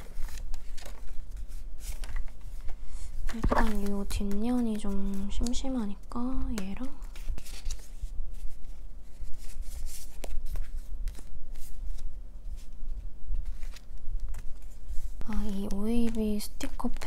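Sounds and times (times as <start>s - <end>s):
paper rustling and crinkling: 0.0s - 5.8s, 6.4s - 17.0s.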